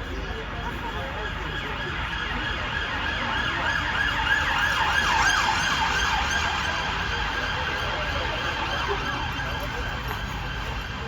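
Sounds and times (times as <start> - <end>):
emergency siren yelping: 1.4 - 10.8.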